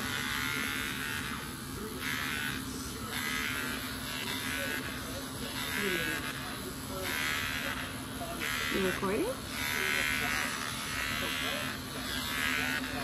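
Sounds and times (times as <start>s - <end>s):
electric hair clipper buzzing: 0.0s - 13.0s.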